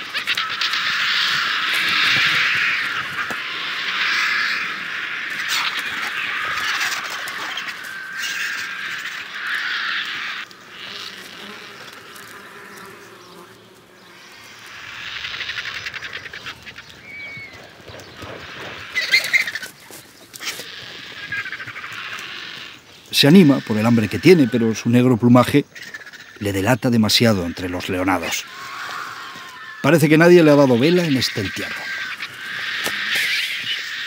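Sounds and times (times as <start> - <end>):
vultures hissing and squawking: 0.0 - 34.0.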